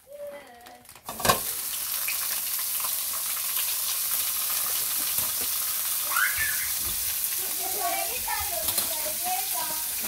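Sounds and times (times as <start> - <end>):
meat sizzling in a hot pan: 0.8 - 10.0.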